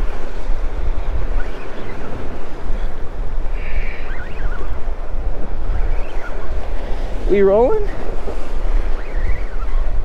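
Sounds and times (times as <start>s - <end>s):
surf: 0.0s - 10.0s
wind buffeting microphone: 0.0s - 10.0s.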